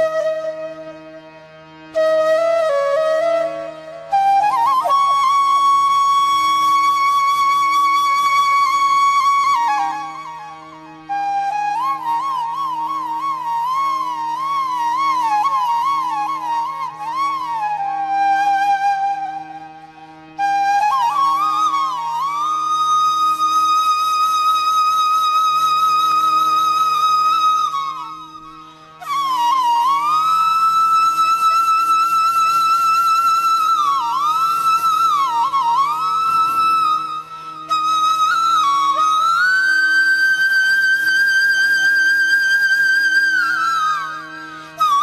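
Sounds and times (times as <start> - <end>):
flute music: 0.0 - 45.0.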